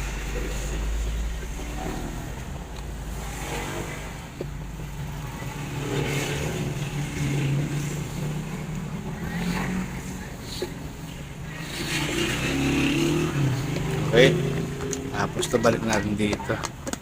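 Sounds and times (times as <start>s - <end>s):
vehicle engine passing: 0.0s - 16.6s.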